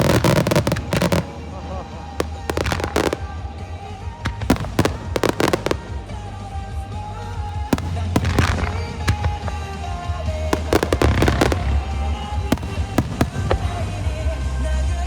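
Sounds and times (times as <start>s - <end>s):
fireworks bangs and crackles: 0.0s - 15.0s
music over loudspeakers: 0.0s - 15.0s.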